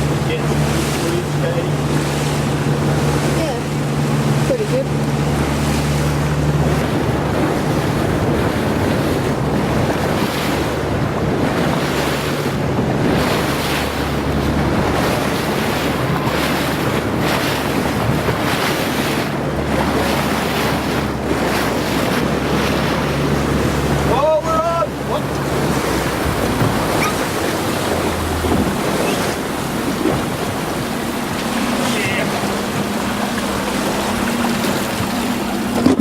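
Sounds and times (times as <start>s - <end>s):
boat engine humming: 0.0s - 36.0s
waves washing around boat: 0.0s - 36.0s
wind buffeting microphone: 0.0s - 36.0s.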